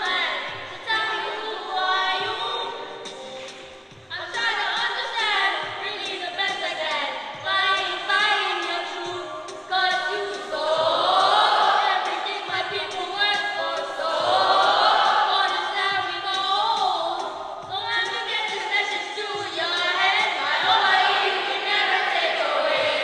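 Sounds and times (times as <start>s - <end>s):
children's choir singing: 0.0s - 23.0s.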